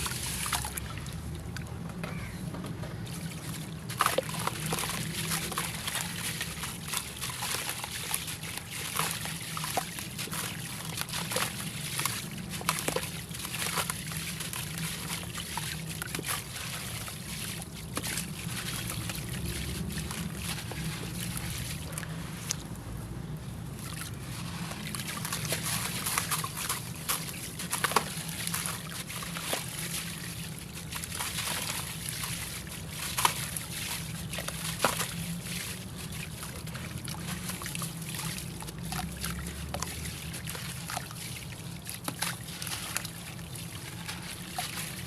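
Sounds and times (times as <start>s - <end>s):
water sloshing and trickling: 0.0s - 45.0s.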